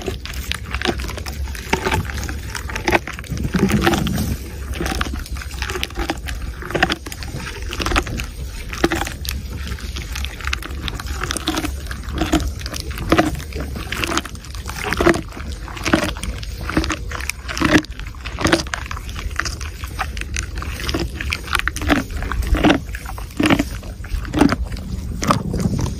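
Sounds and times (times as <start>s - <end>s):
camel chewing twigs: 0.0s - 25.9s
low rumble: 0.0s - 25.9s.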